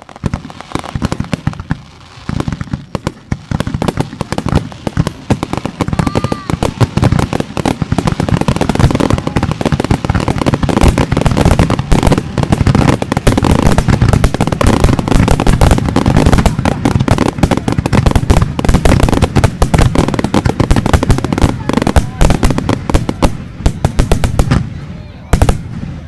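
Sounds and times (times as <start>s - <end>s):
fireworks barrage: 0.0s - 26.0s.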